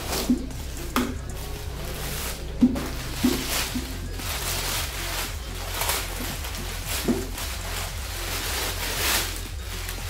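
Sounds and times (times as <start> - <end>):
packing paper crinkling: 0.0 - 10.0.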